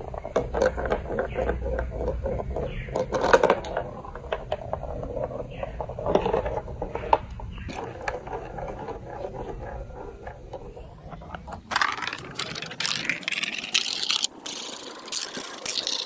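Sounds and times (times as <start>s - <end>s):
marbles rolling on plastic track: 0.0s - 16.0s.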